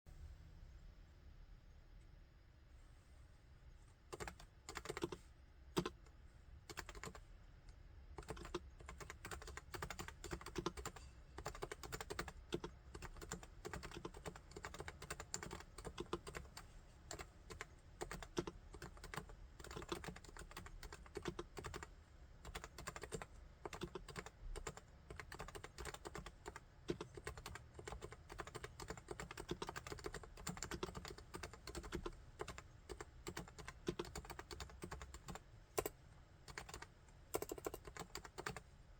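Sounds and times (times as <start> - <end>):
keyboard typing: 4.1 - 6.1, 6.7 - 7.2, 8.2 - 38.7.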